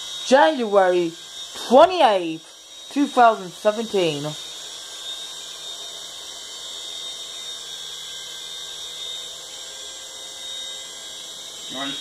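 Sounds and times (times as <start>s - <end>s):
toy helicopter motor whining: 0.0s - 12.0s.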